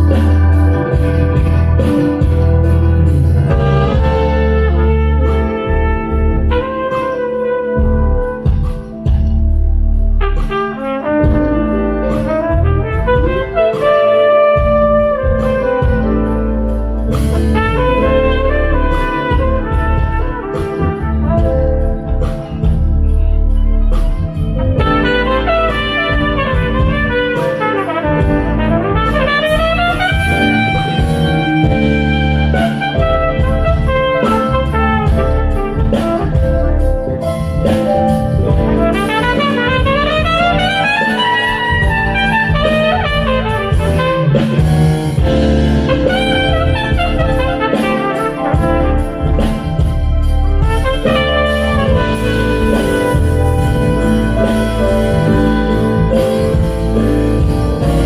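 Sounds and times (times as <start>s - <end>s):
bass: 0.0s - 58.0s
drum kit: 0.0s - 58.0s
trumpet playing: 0.0s - 58.0s.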